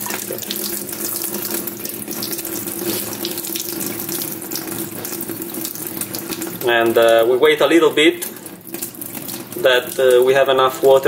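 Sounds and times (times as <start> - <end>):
tap water splashing: 0.0 - 7.3, 7.9 - 10.4.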